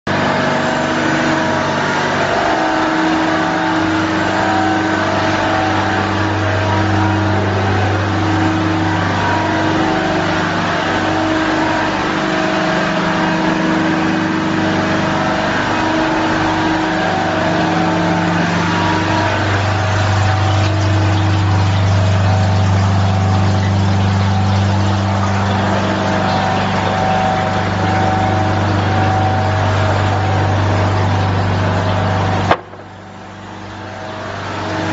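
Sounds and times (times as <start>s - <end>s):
ice machine humming: 0.1s - 34.9s.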